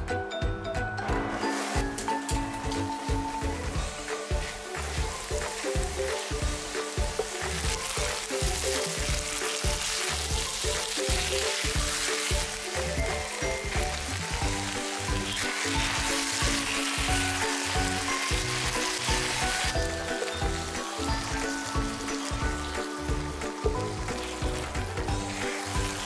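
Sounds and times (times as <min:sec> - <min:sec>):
music with pulsing beat: 0:00.0 - 0:25.3
meat sizzling in a frying pan: 0:01.3 - 0:26.0
spatula stirring in pan: 0:03.6 - 0:26.0.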